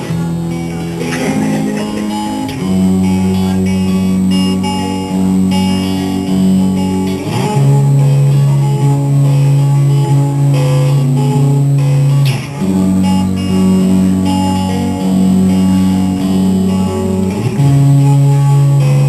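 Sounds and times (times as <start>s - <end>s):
guitar playing chords: 0.0s - 19.0s.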